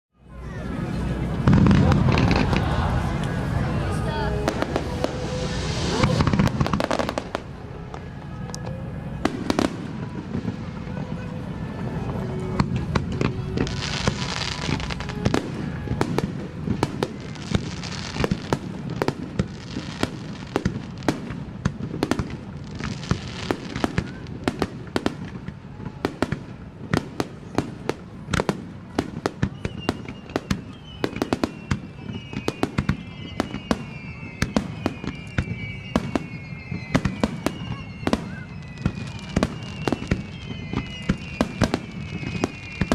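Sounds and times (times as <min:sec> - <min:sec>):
firework whistles gliding down: 0:00.6 - 0:42.9
firework hissing: 0:00.9 - 0:42.9.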